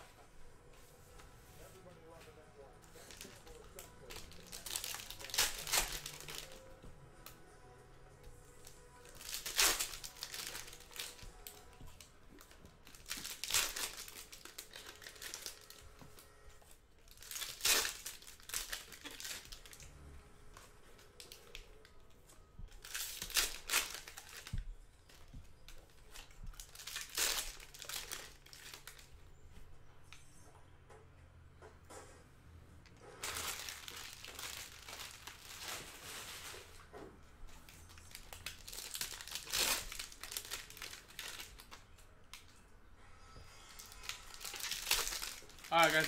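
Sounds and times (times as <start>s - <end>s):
wrappers crinkling and tearing: 1.7s - 29.2s, 33.1s - 42.6s, 43.2s - 46.0s.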